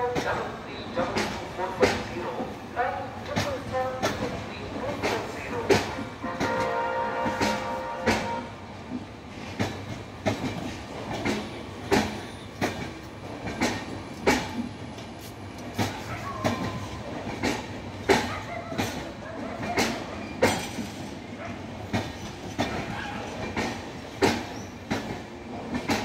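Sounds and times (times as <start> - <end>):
train rolling low rumble: 0.0 - 26.0
train wheels clicking over rail joints: 1.0 - 2.5, 3.2 - 26.0.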